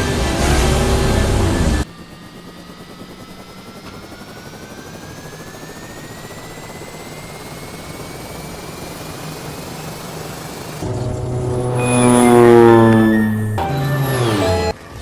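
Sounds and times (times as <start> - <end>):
aircraft engine spooling up: 0.6 - 14.8.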